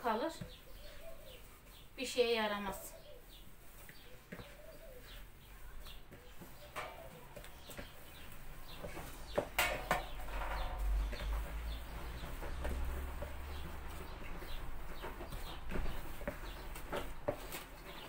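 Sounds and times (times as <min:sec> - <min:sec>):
dough squelching: 0:00.0 - 0:18.0.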